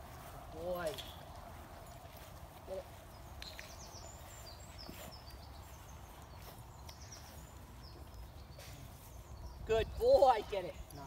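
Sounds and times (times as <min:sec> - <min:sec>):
small bird chirping: 0:00.8 - 0:11.0.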